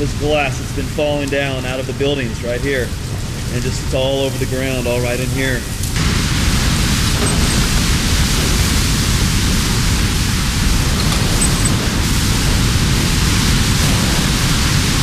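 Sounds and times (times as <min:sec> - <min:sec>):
driving rain: 0:00.0 - 0:15.0
hurricane-force wind: 0:00.0 - 0:15.0
wind buffeting the microphone: 0:02.9 - 0:15.0.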